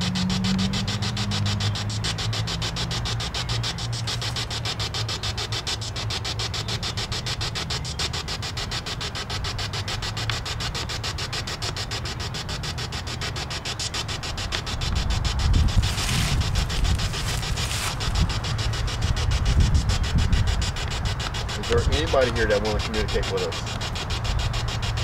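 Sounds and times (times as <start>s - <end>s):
low hum: 0.0s - 21.8s
pulsing static hiss: 0.0s - 25.0s.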